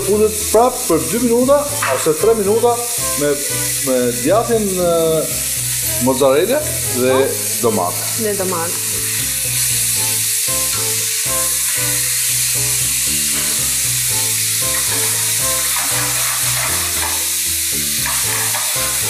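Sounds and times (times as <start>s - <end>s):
background music: 0.0s - 19.0s
chicken sizzling in frying pan: 0.0s - 19.0s.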